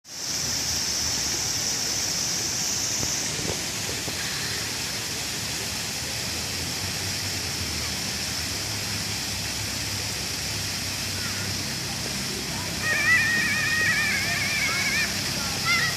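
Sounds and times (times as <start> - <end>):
water fountain splashing: 0.1 - 15.9.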